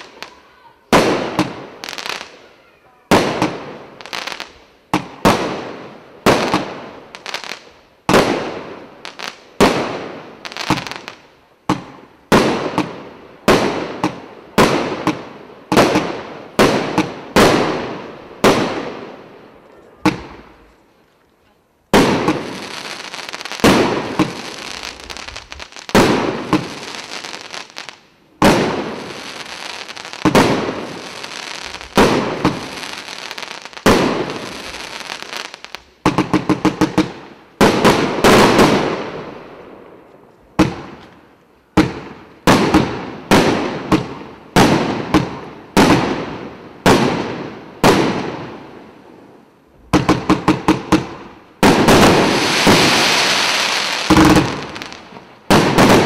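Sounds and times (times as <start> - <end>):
fireworks shots: 0.0 - 2.5, 3.1 - 20.7, 21.9 - 49.1, 49.8 - 56.0
fireworks crackling: 0.0 - 21.2, 21.9 - 56.0.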